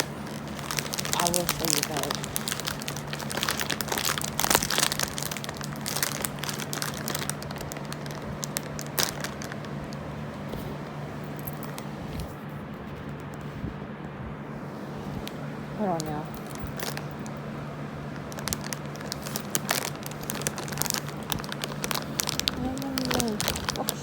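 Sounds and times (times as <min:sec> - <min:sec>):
plastic packaging crinkling: 0:00.0 - 0:11.9, 0:15.2 - 0:24.0.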